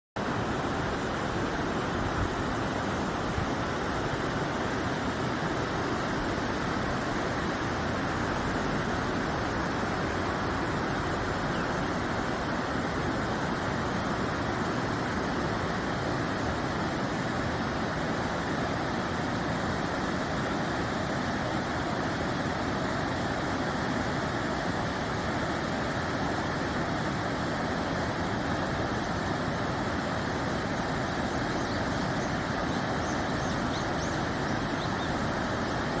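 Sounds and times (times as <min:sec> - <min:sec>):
stream water rushing: 0:00.2 - 0:36.0.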